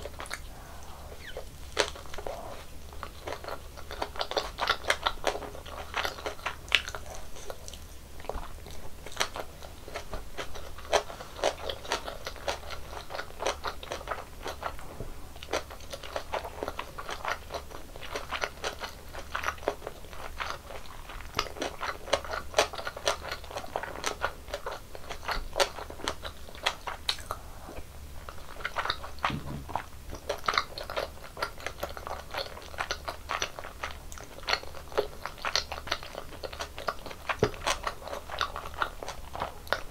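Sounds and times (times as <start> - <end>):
biting and chewing food: 0.0 - 39.9.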